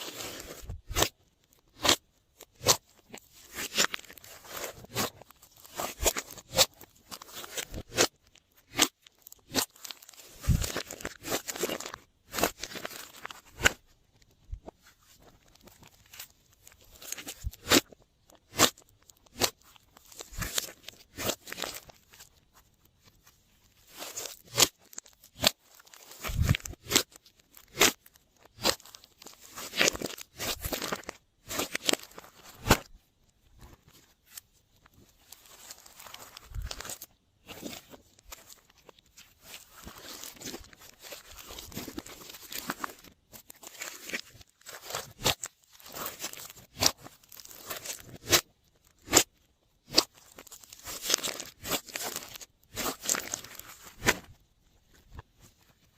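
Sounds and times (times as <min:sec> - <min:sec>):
slime being kneaded by hand: 0:00.0 - 0:55.9.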